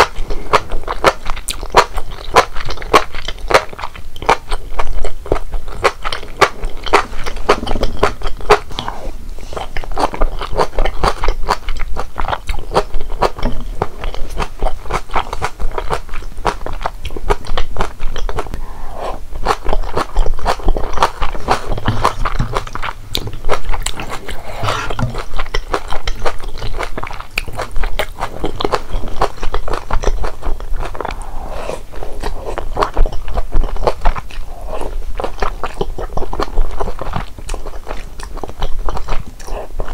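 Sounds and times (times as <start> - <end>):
chewing and mouth clicks: 0.0 - 39.9.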